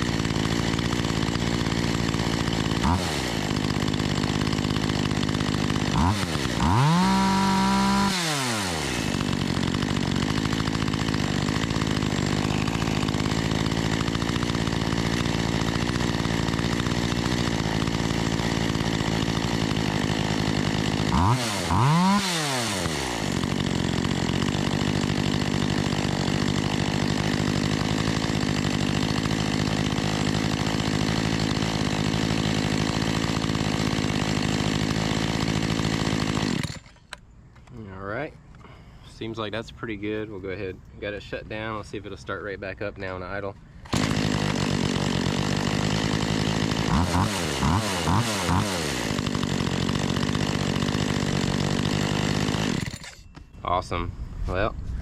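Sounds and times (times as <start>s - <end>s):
chainsaw idling and revving: 0.0s - 40.6s, 41.2s - 54.1s.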